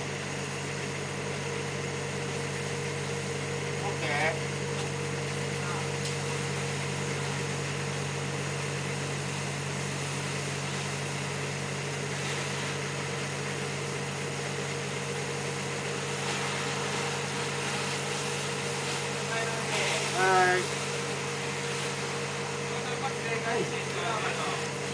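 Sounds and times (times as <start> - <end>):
machinery low hum: 0.0 - 24.9.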